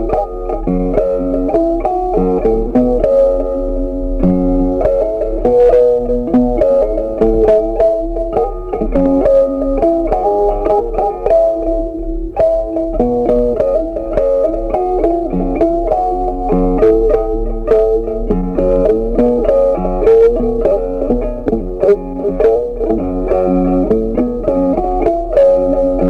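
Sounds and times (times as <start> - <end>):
plucked guitar music: 0.0 - 26.0.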